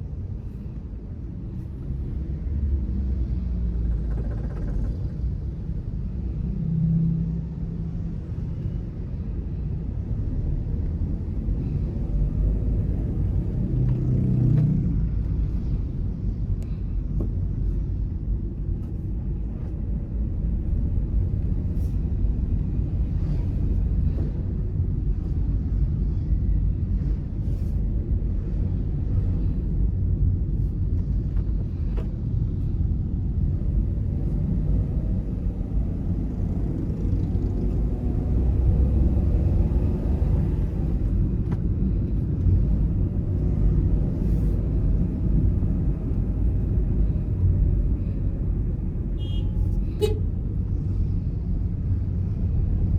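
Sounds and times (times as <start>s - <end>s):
car engine and road noise: 0.0s - 52.9s.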